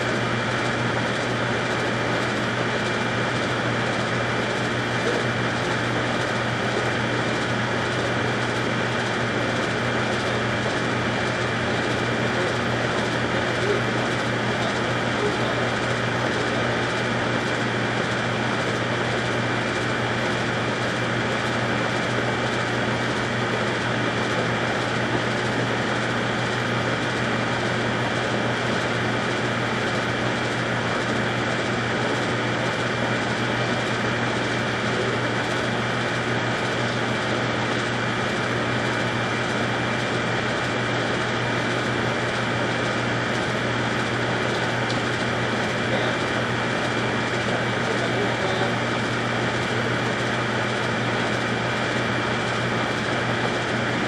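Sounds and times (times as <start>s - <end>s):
pump high whine: 0.0s - 54.0s
sewer jetter engine humming: 0.0s - 54.0s.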